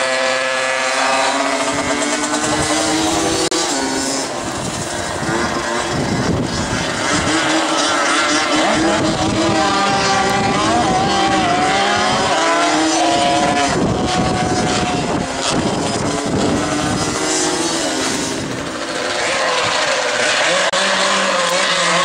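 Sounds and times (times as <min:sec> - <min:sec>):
moped engines revving: 0:00.0 - 0:22.0.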